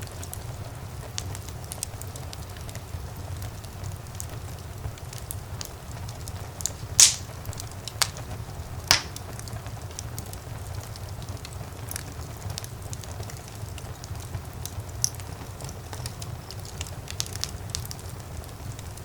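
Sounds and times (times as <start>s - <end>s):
fire rumbling: 0.0s - 19.0s
loud fire pops: 0.0s - 19.0s
small fire crackles: 0.0s - 19.0s.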